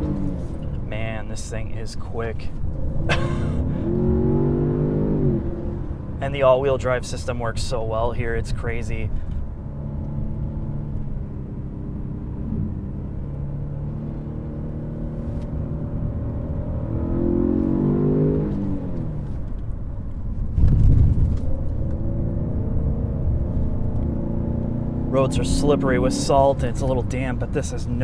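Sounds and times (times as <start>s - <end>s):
car engine revving: 0.0s - 6.5s, 9.2s - 28.0s
heavy low rumble: 0.0s - 13.9s, 18.6s - 28.0s
road and tyre rumble: 0.0s - 28.0s.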